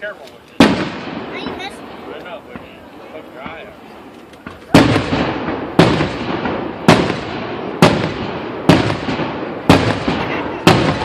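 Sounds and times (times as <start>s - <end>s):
fireworks booming: 0.6s - 11.0s.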